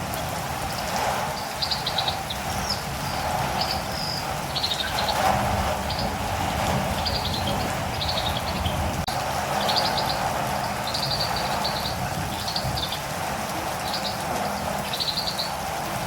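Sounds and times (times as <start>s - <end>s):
steady rain: 0.0s - 16.0s
bird chirping: 1.3s - 13.0s, 13.8s - 15.6s.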